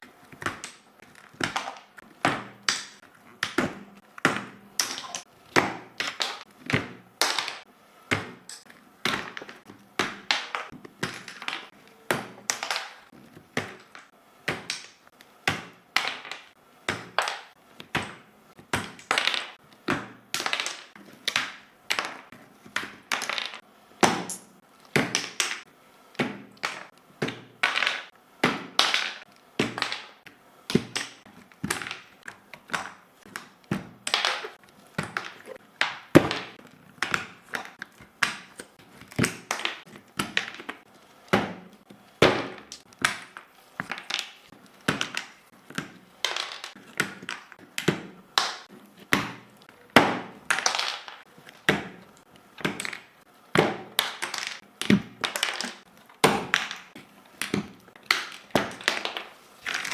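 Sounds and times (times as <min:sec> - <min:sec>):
plastic keyboard parts clattering: 0:00.0 - 0:18.2, 0:26.5 - 0:59.9.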